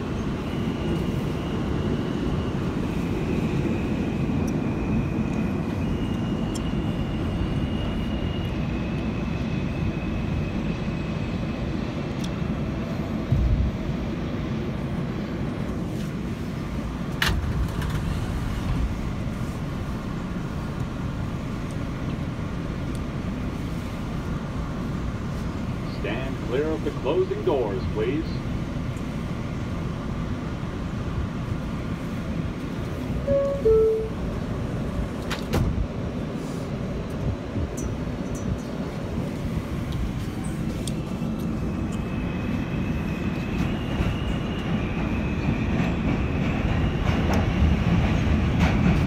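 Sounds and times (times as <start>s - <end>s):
subway train rumble: 0.0s - 49.0s.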